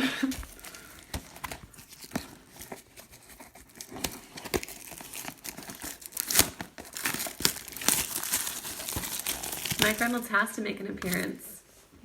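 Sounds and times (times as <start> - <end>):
card pack wrappers tearing and crinkling: 0.2 - 10.4, 11.0 - 11.4.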